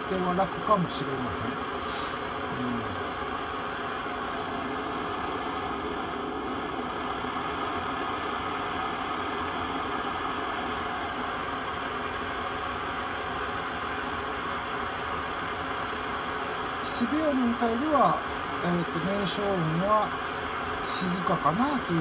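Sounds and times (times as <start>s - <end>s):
petrol stove burner rushing: 0.0s - 22.0s.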